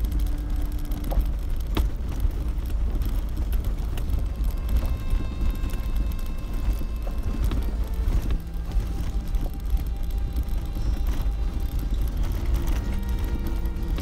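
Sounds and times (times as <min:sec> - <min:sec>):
low rumble of engine and tyres: 0:00.0 - 0:14.0
stones knocking under wheels: 0:00.0 - 0:14.0.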